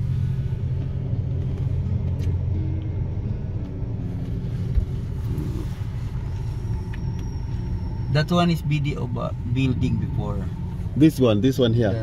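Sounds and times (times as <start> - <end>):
car engine and tyres rumble: 0.0 - 12.0.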